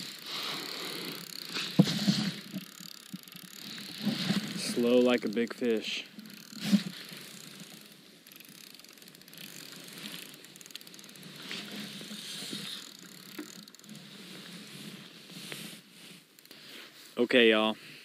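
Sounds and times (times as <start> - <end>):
fishing reel clicking: 0.0 - 15.6, 16.2 - 16.7.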